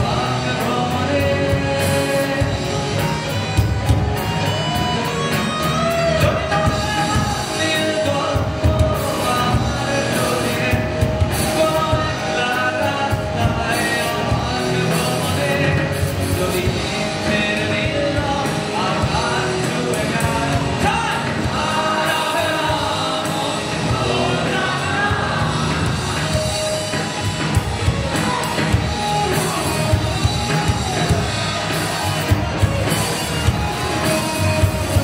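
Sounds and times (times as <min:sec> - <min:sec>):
rock band playing: 0:00.0 - 0:35.0
singer on a microphone: 0:00.0 - 0:35.0.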